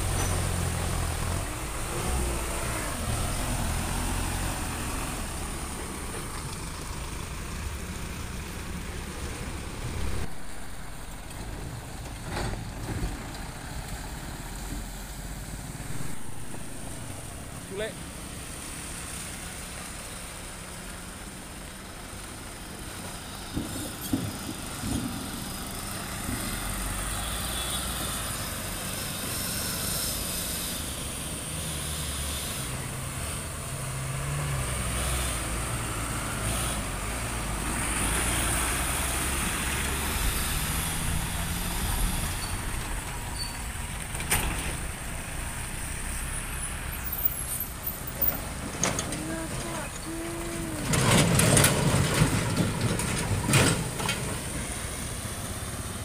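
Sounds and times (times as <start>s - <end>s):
diesel trucks passing: 0.0s - 56.0s.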